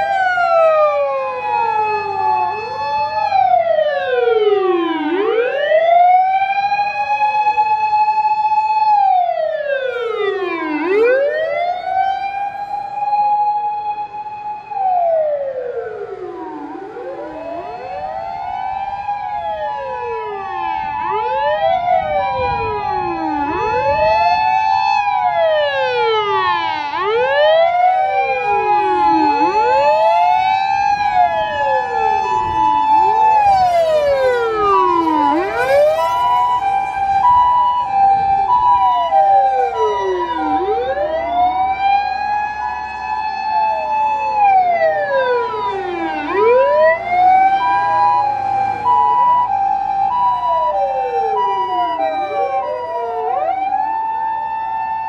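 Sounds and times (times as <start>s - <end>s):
ambulance two-note siren: 0.0s - 55.0s
wailing sirens: 0.0s - 55.0s.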